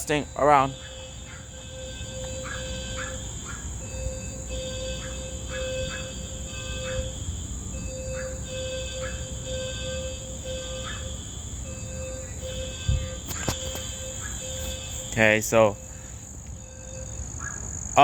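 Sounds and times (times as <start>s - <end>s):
fire alarm short low beeps: 0.0s - 17.2s
high insect drone: 0.0s - 18.0s
insect chirps: 0.0s - 18.0s.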